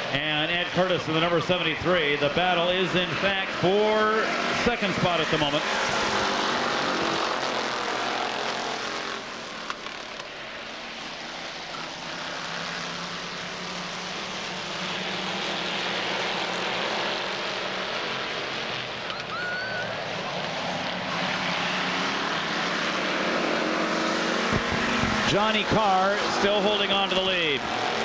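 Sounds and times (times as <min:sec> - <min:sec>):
racing car engines droning: 0:00.0 - 0:28.0.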